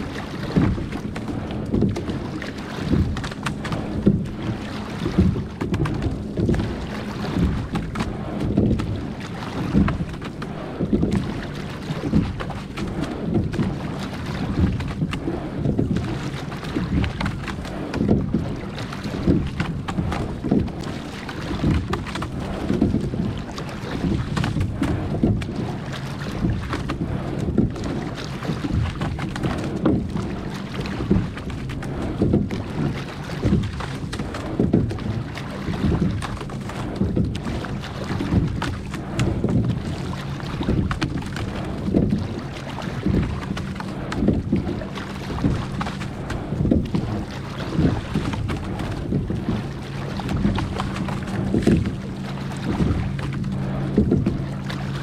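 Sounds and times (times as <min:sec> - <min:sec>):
oars splashing in water: 0:00.0 - 0:55.0.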